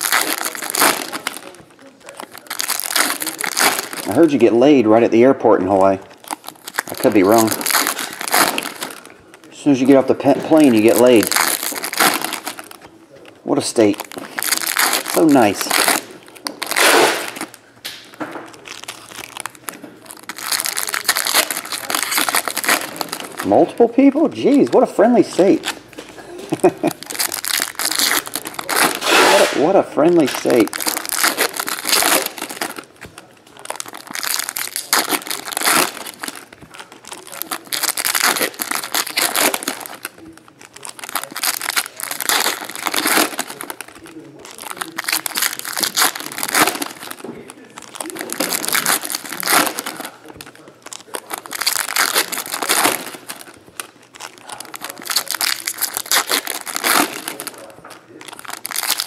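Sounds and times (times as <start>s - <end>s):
packs being torn open: 0.0s - 5.0s, 5.6s - 59.0s
foil wrapper crinkling and tearing: 0.0s - 59.0s.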